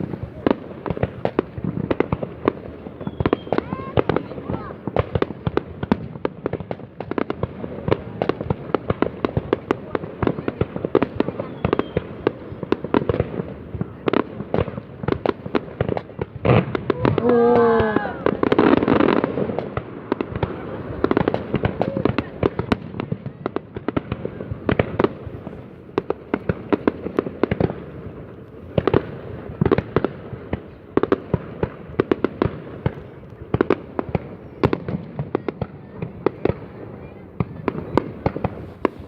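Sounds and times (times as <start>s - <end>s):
fireworks bangs: 0.0s - 39.0s
fireworks crackling: 0.0s - 39.0s.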